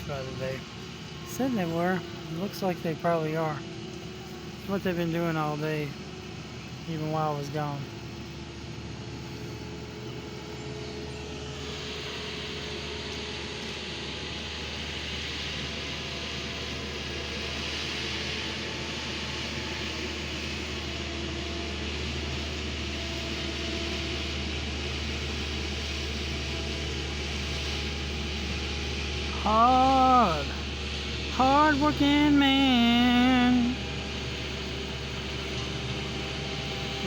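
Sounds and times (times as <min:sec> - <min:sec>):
paving machinery engines humming: 0:00.0 - 0:37.0.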